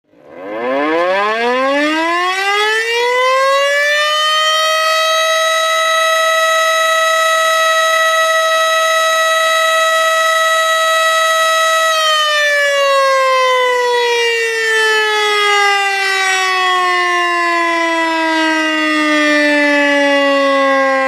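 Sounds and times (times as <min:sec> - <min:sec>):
warning siren wailing: 0:00.1 - 0:21.0.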